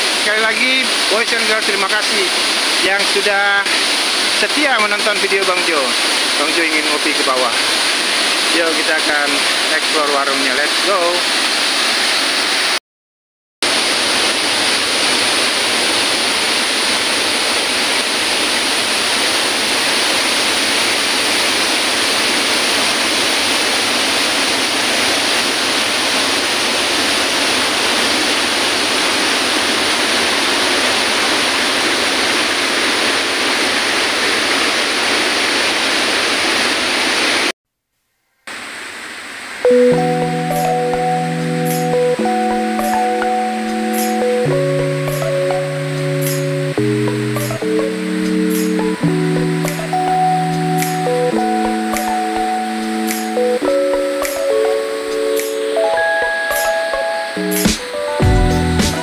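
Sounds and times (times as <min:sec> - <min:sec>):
fast stream of water: 0:00.0 - 0:12.8, 0:13.6 - 0:37.5, 0:38.5 - 0:59.0
waterfall rushing: 0:00.0 - 0:12.8, 0:13.6 - 0:37.5, 0:38.5 - 0:59.0.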